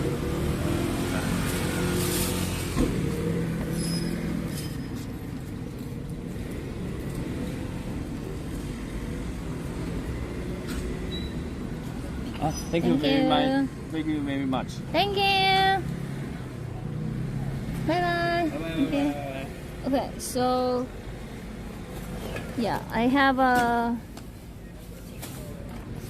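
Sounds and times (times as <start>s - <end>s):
traffic hum: 0.0s - 26.0s.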